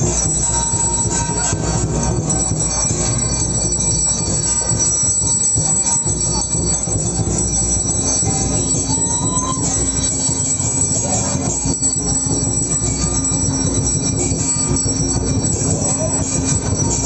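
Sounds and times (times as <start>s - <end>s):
bells ringing: 0.0s - 17.0s
crowd din: 0.0s - 17.0s.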